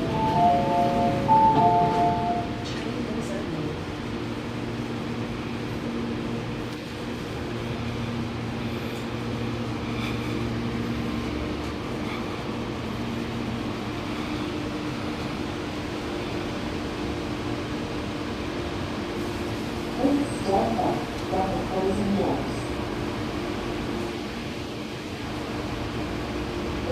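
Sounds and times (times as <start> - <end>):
train equipment humming: 0.0 - 26.9.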